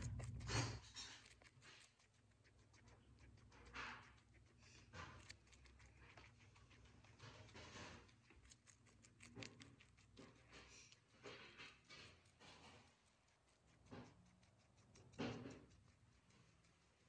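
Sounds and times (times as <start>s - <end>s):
guinea pig chewing hay: 0.0s - 17.0s.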